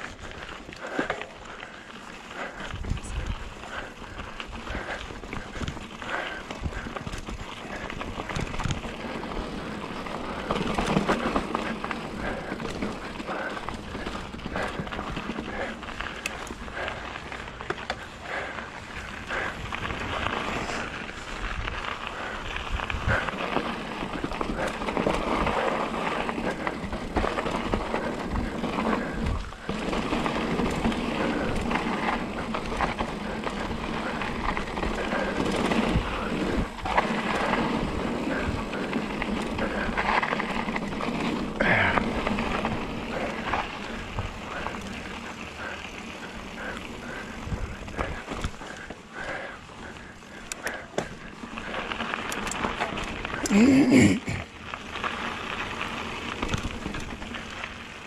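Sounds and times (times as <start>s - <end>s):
bike knocking and rattling: 0.0s - 58.0s
bike tyres over gravel and dirt: 0.0s - 58.0s.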